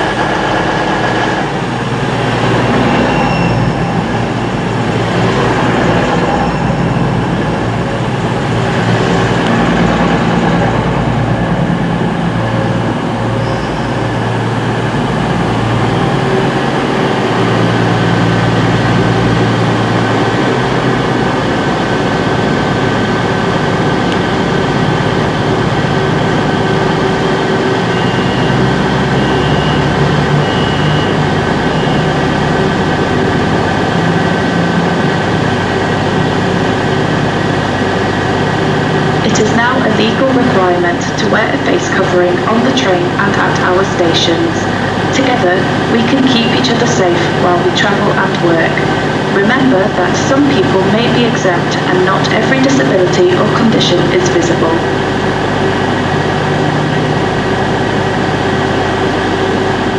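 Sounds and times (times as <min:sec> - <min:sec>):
diesel train engine rumbling: 0:00.0 - 0:59.9.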